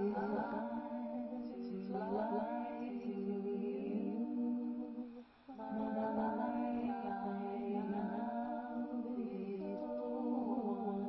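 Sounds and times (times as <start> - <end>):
layered voices humming: 0.0 - 11.0.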